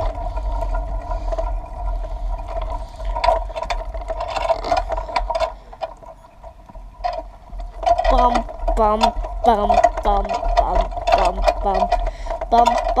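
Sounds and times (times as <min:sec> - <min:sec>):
bicycle rattling over bumps: 0:00.0 - 0:13.0
steady whine: 0:00.0 - 0:13.0
wind and road rumble: 0:00.0 - 0:13.0.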